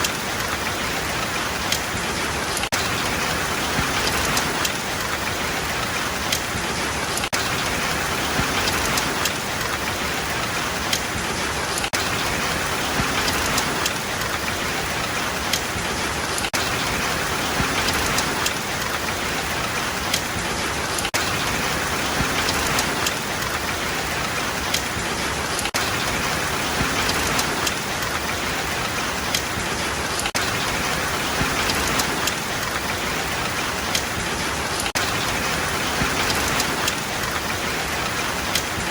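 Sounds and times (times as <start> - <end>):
rain falling: 0.0 - 38.9
raindrops ticking: 0.0 - 38.9.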